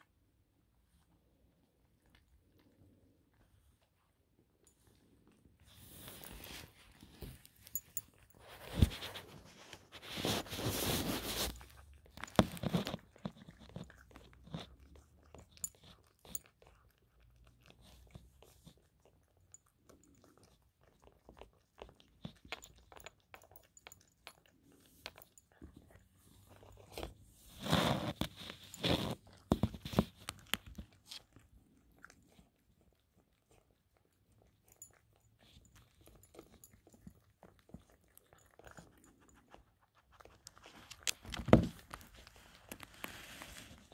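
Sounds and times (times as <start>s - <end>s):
cat chewing and crunching food: 0.0s - 43.9s.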